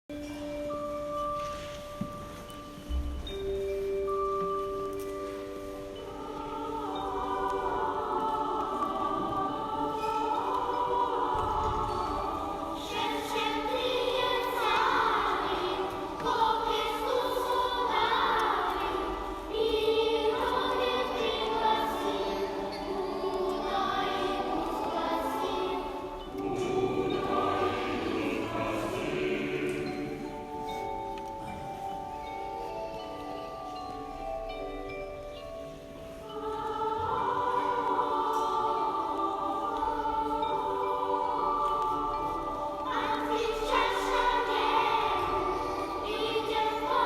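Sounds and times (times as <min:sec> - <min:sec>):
choir singing a carol: 0:00.1 - 0:47.0.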